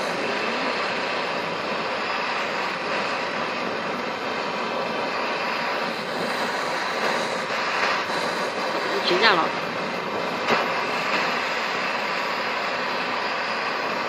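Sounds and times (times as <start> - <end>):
blowtorch flame hissing: 0.0 - 14.0.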